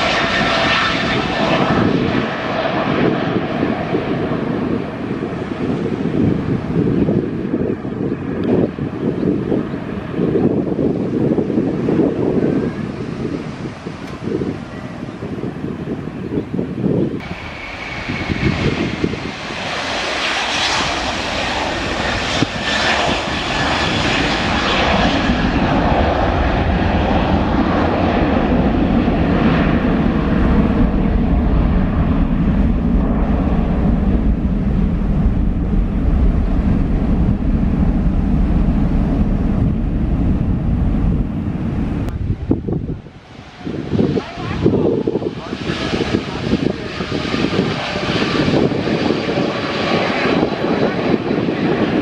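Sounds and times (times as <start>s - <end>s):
jet engines deep rumble: 0.0s - 52.0s
jet engines roaring with whistle: 0.0s - 52.0s.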